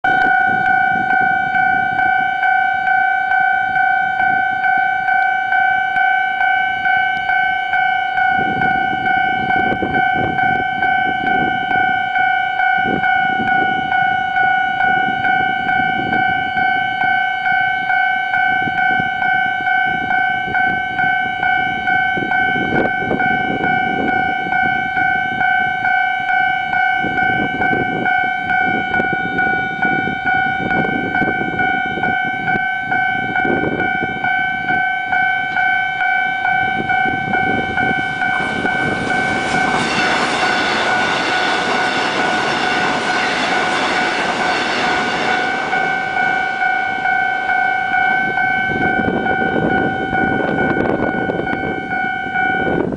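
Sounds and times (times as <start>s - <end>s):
pulsing electronic crossing alarm: 0.0s - 52.9s
trains rumbling: 0.0s - 52.9s
wheels rushing on rails: 0.0s - 52.9s.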